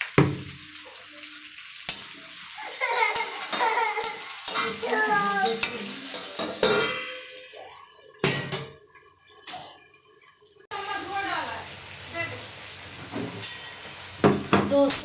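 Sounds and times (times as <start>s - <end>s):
vegetables frying in oil: 0.0s - 15.0s.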